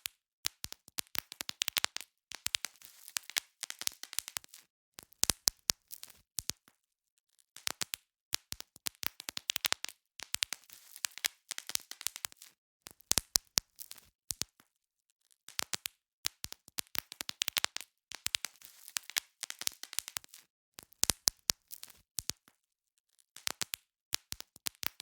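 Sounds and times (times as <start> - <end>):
bubble wrap popping: 0.0 - 6.6, 7.6 - 14.5, 15.5 - 22.4, 23.4 - 25.0.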